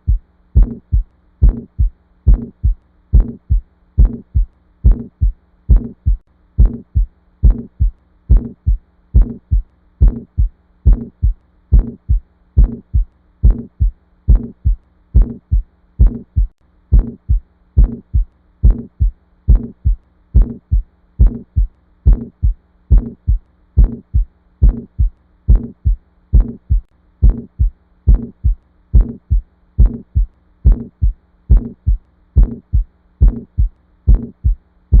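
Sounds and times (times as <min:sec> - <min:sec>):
faint steady hum: 0:00.0 - 0:35.0
heartbeat thumps: 0:00.0 - 0:35.0.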